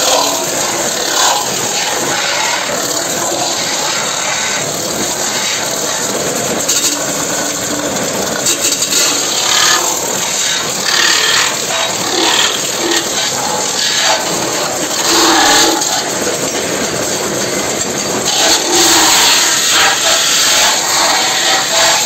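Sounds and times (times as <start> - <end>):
lathe tool grinding on metal: 0.0 - 22.0
metal squeals: 0.0 - 22.0.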